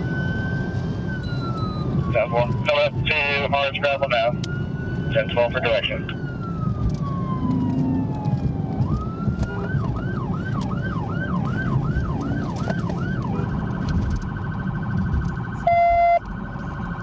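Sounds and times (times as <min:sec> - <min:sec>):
engine and road noise rumble: 0:00.0 - 0:17.0
police siren: 0:00.0 - 0:17.0.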